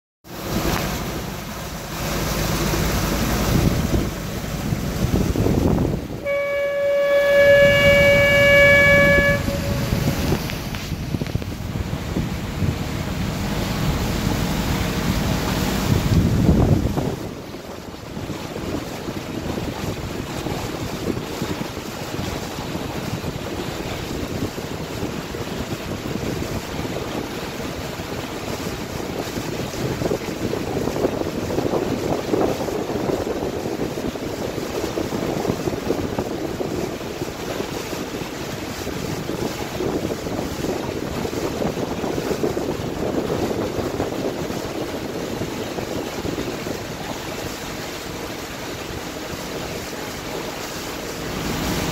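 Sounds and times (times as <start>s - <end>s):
water rushing against boat hull: 0.2s - 51.9s
wind buffeting microphone: 0.4s - 51.9s.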